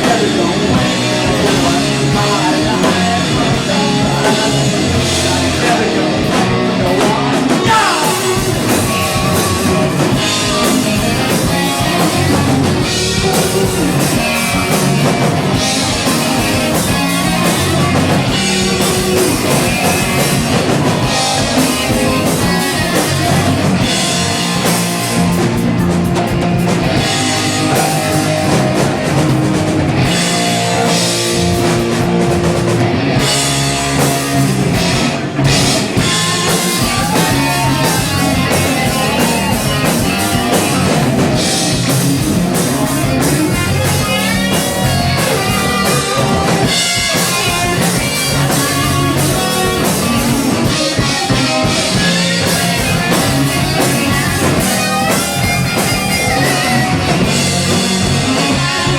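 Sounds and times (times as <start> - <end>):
drum kit: 0.0 - 58.9
electric guitar: 0.0 - 58.9.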